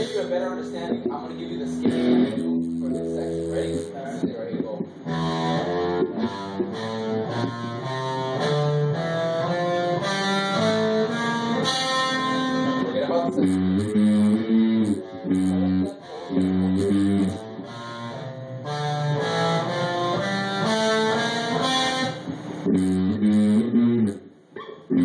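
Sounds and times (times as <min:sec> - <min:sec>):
electric guitar and bass riff: 0:00.0 - 0:25.0.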